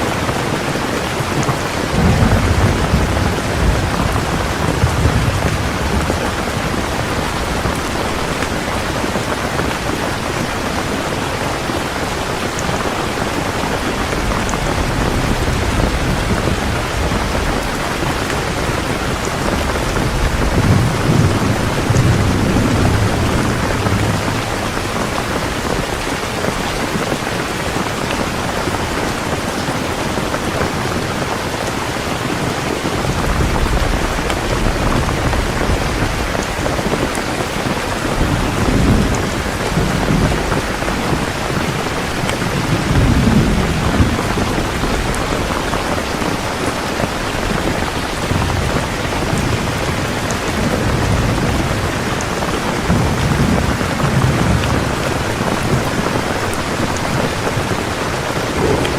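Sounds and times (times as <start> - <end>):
heavy rain hissing: 0.0 - 58.9
rolling thunder rumbles: 0.1 - 29.2, 32.5 - 58.9.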